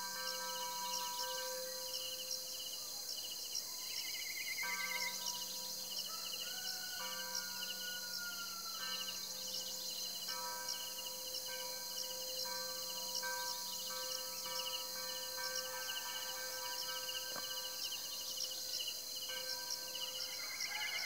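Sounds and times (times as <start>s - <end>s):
crickets chirping: 0.0s - 21.0s
insect trill: 0.0s - 21.0s
high-pitched insect whine: 0.2s - 21.0s.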